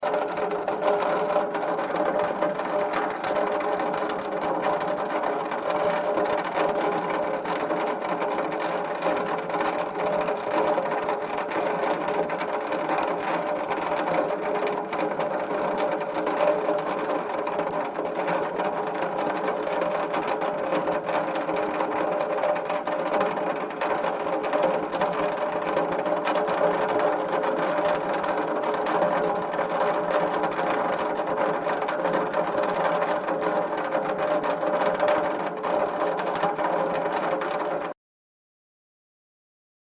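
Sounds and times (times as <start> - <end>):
water dripping in rain gutter: 0.0 - 38.0.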